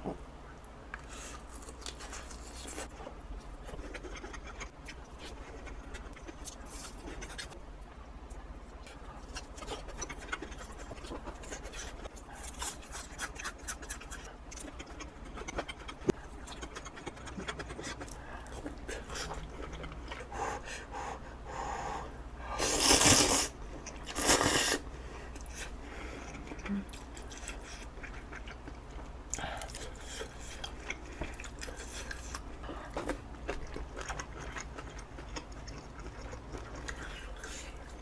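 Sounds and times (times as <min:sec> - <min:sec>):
chewing: 0:00.9 - 0:07.6, 0:08.3 - 0:20.3, 0:25.3 - 0:38.0.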